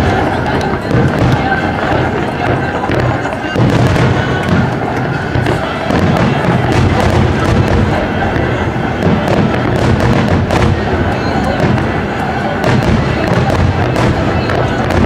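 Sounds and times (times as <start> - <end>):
firework shells bursting and crackling: 0.0 - 15.0.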